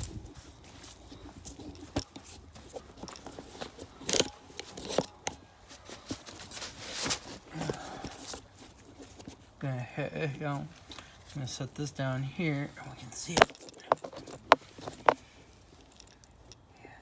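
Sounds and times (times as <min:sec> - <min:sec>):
objects being handled: 0:00.0 - 0:09.6, 0:10.3 - 0:16.7.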